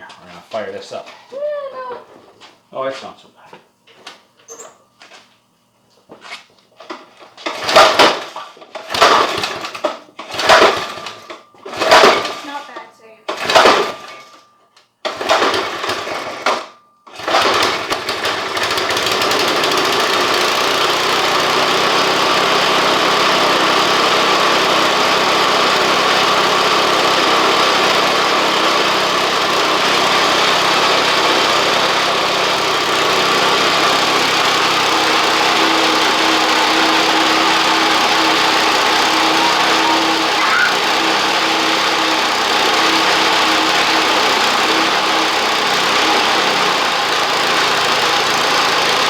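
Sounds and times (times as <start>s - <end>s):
small gasoline engine running: 7.0s - 14.4s, 15.0s - 49.0s.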